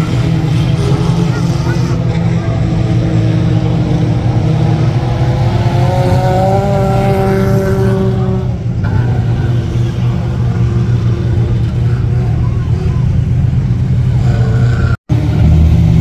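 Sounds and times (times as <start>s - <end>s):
engine revving: 0.0s - 16.0s
mini truck engines rumbling: 0.0s - 16.0s.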